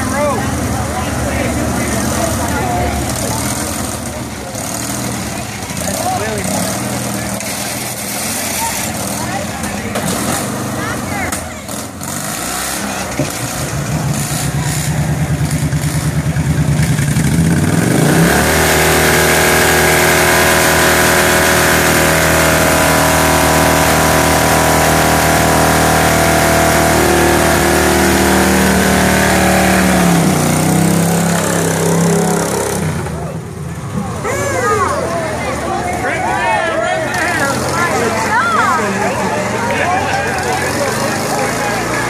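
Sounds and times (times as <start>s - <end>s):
lawn tractor engine under load: 0.0s - 42.0s.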